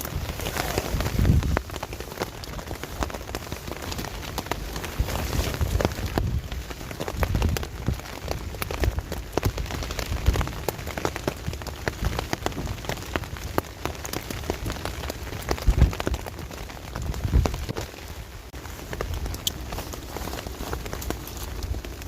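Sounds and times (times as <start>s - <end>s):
rain drops on a tarp: 0.0s - 22.0s.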